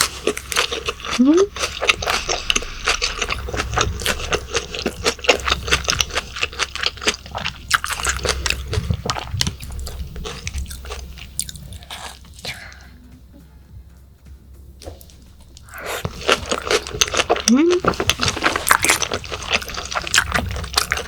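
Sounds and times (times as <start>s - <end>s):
wet chewing: 0.0s - 12.8s, 14.8s - 21.0s.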